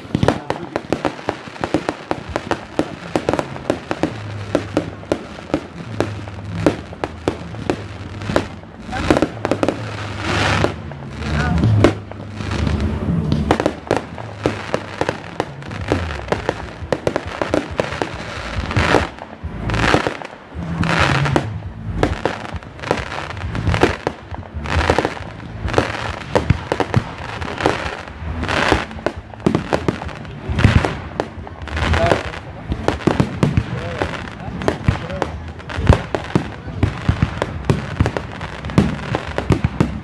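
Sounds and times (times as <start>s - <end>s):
fireworks bursting: 0.0s - 40.0s
music playing: 0.0s - 40.0s.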